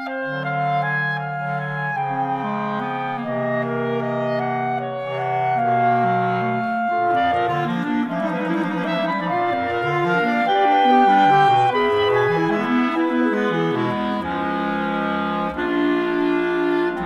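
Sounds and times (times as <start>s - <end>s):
clarinet quartet playing: 0.0s - 17.0s.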